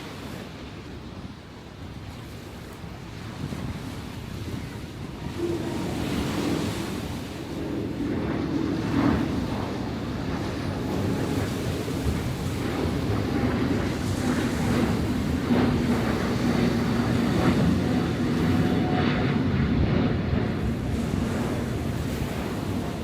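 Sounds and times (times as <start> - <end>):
heavy surf breaking on shore: 0.0 - 23.0
passing engine drone: 4.4 - 23.0.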